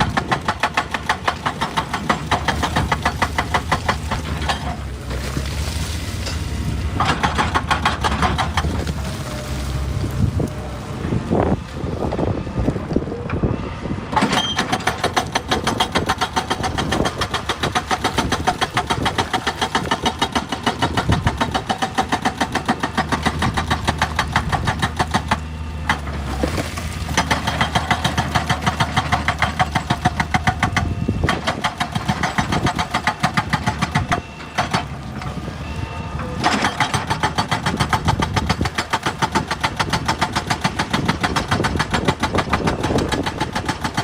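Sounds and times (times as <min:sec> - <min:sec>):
hydraulic rock breaker hammering: 0:00.0 - 0:05.0, 0:06.2 - 0:09.2, 0:14.1 - 0:35.0, 0:36.2 - 0:44.0
diesel engine drone: 0:00.0 - 0:44.0.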